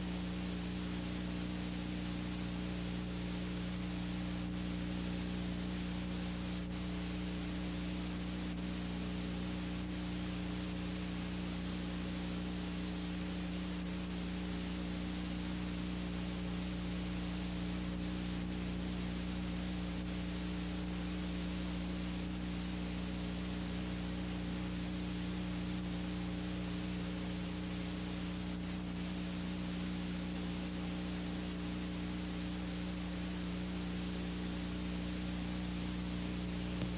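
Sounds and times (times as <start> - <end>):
low electrical hum: 0.0 - 36.9
steady hiss: 0.0 - 36.9.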